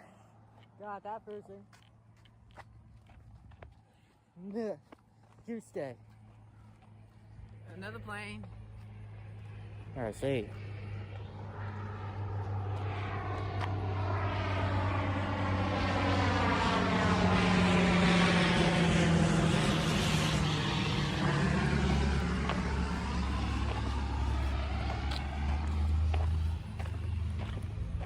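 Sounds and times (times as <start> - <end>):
airplane passing overhead: 0.0 - 28.0.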